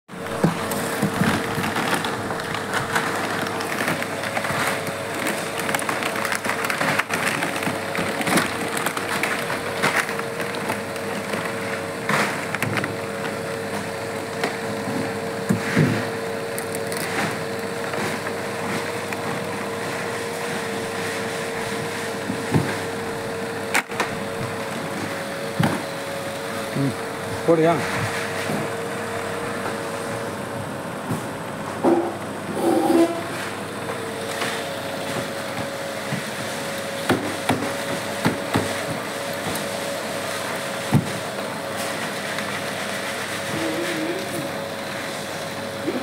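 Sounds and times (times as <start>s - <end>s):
machine hum: 0.1s - 46.0s.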